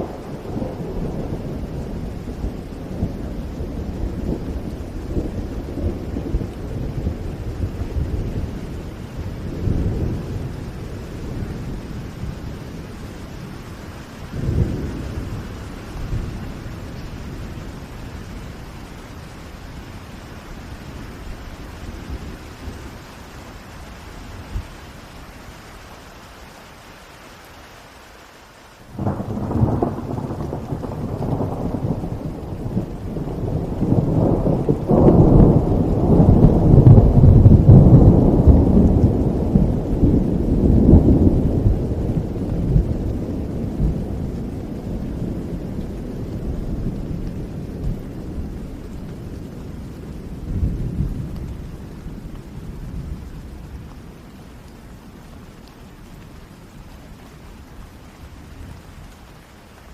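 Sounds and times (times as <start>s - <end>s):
thunder clap and rumble: 0.0s - 23.1s, 28.9s - 56.5s
steady rain falling: 0.0s - 59.9s.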